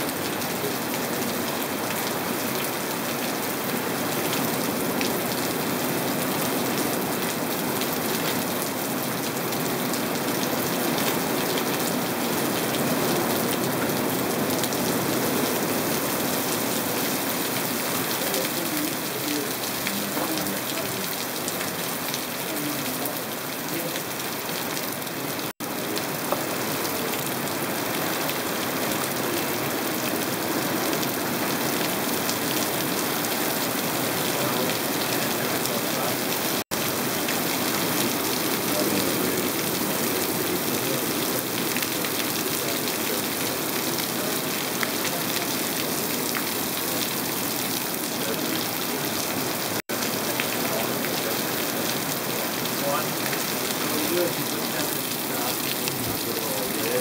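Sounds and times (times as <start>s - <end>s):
steady rain on grass: 0.0s - 57.0s.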